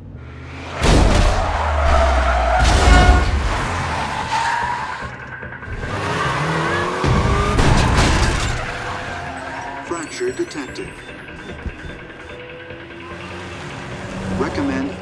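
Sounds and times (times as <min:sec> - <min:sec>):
tires squealing: 0:00.5 - 0:15.0.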